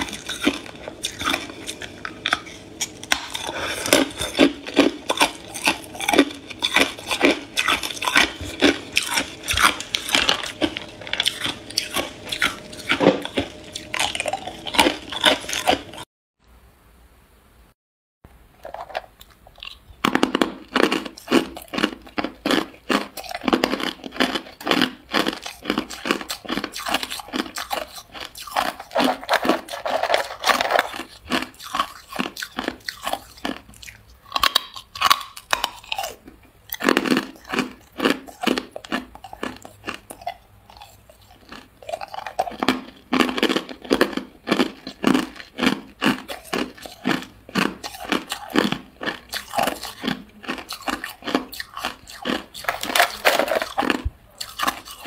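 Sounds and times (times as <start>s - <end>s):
ice cubes crunching in mouth: 0.0s - 16.1s, 18.6s - 55.0s.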